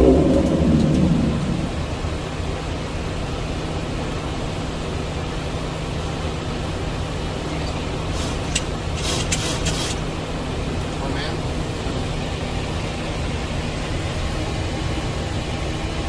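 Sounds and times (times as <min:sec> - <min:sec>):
airplane cockpit engine and airflow: 0:00.0 - 0:16.0.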